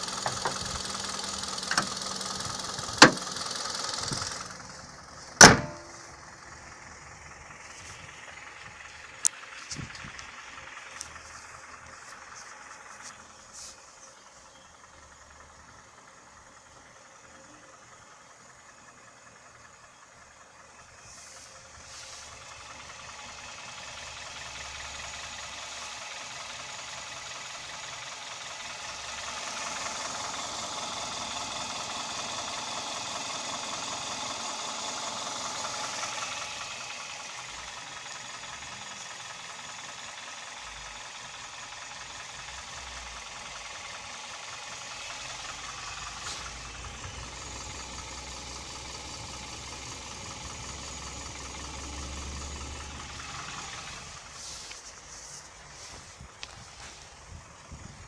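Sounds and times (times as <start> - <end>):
car engine knocking: 0.0 - 58.0.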